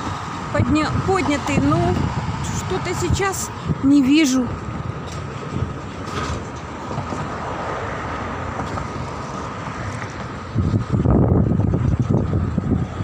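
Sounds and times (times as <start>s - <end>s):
cars passing on bridge: 0.0s - 13.0s
wind buffeting microphone: 0.0s - 13.0s.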